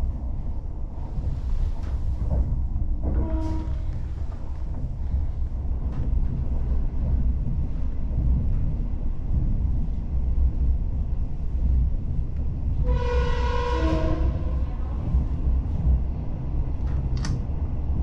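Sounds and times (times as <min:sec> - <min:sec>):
train rumble inside carriage: 0:00.0 - 0:18.0.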